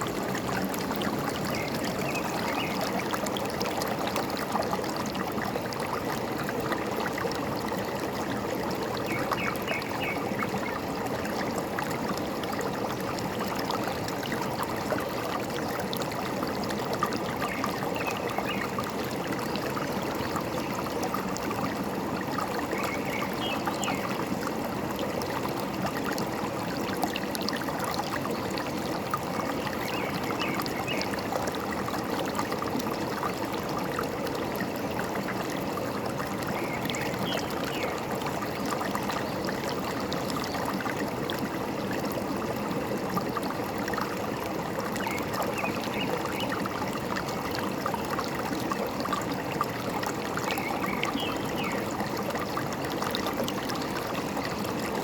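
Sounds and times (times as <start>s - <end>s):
stream gurgling and trickling: 0.0s - 55.0s.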